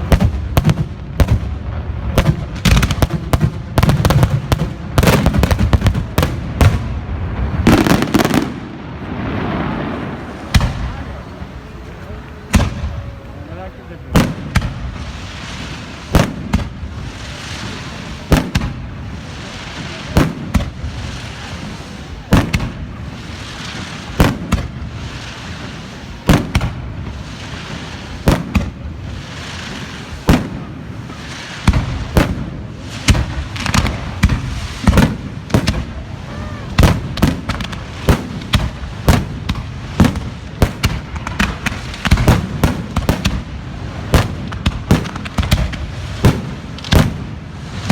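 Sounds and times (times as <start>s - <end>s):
fireworks bangs: 0.0s - 47.9s
fireworks crackling hiss: 0.0s - 47.9s.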